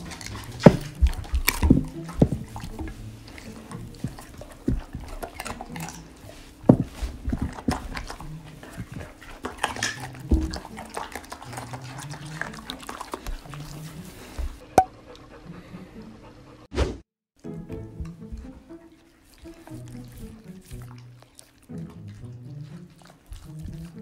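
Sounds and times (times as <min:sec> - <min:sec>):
teeth clicking against plates: 0:00.0 - 0:14.0, 0:17.7 - 0:24.0
dogs chewing and crunching: 0:00.0 - 0:16.1, 0:17.4 - 0:24.0.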